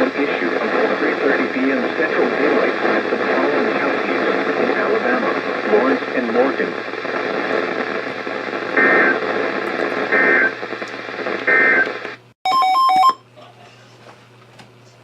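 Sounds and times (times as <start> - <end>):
radio hiss and hum: 0.0 - 12.3.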